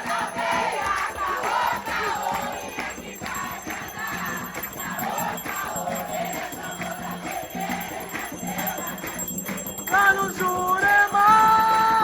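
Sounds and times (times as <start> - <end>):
group singing a chant: 0.0 - 12.0
jingling percussion: 0.0 - 12.0.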